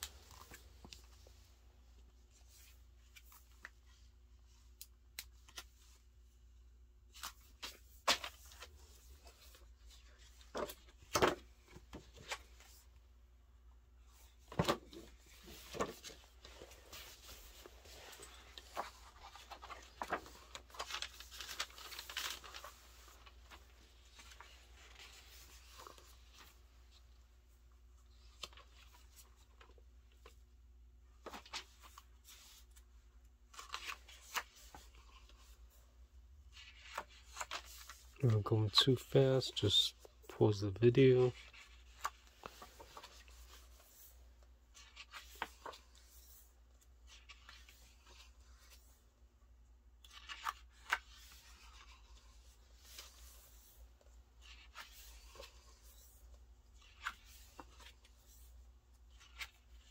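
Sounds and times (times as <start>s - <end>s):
pages turning and rustling: 0.0s - 6.4s, 7.0s - 13.1s, 14.0s - 30.5s, 31.2s - 59.9s.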